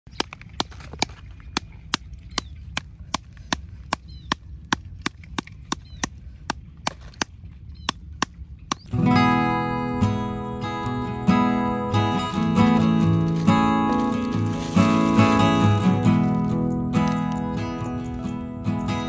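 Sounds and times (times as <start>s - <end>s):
low wind rumble: 0.1s - 19.0s.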